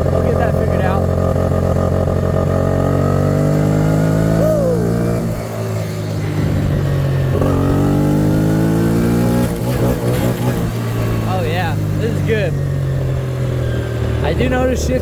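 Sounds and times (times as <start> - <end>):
small atv engine running: 0.0 - 15.0.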